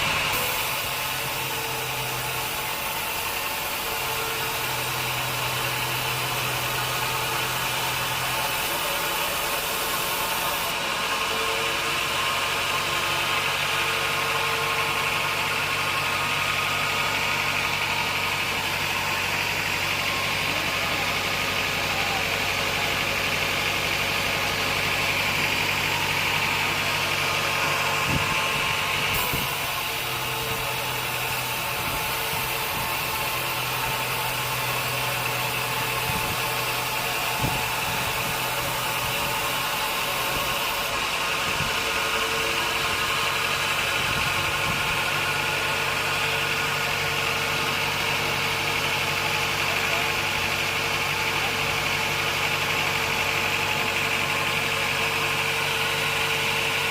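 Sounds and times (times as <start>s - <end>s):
sawmill machinery hum and hiss: 0.0s - 56.9s.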